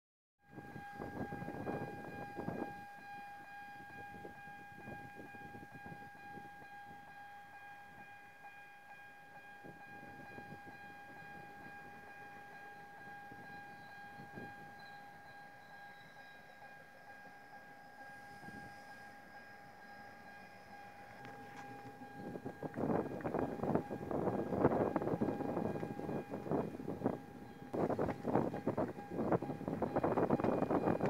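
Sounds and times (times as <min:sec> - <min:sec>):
distant train rumble: 0:00.4 - 0:31.0.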